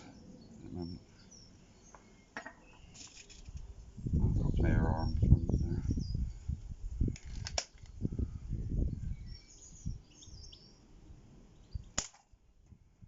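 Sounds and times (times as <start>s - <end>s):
birds chirping faintly: 0.0s - 6.6s, 7.9s - 12.0s.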